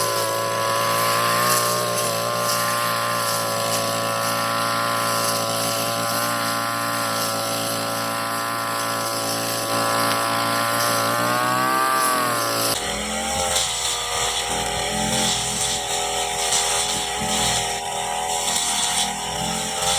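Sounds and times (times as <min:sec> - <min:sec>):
brush cutter engine running: 0:00.0 - 0:19.9.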